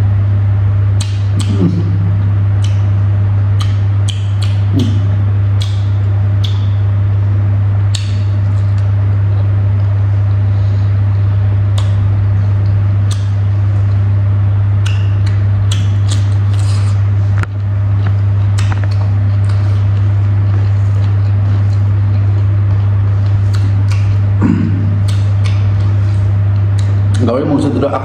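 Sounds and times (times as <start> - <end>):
loud low hum: 0.0 - 28.0
chewing and eating clicks: 0.9 - 28.0.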